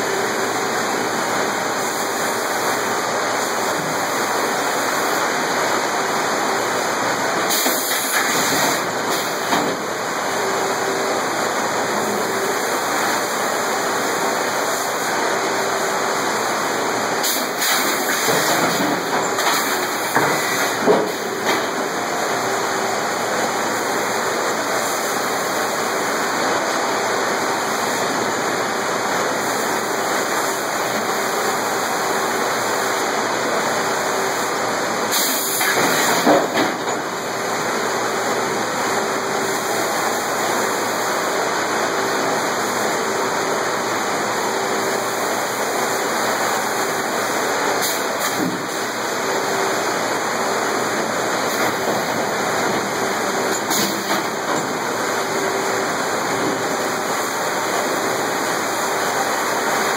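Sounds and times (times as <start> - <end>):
sawmill machinery roaring: 0.0 - 59.9.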